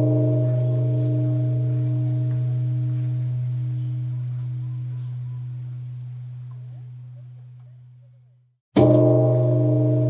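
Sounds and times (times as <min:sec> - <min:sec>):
temple bell ringing: 0:00.0 - 0:07.3, 0:08.8 - 0:10.0.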